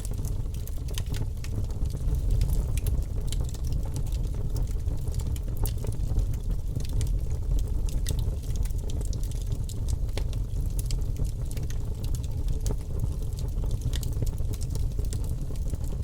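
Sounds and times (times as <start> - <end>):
fire low rumble: 0.0 - 16.0.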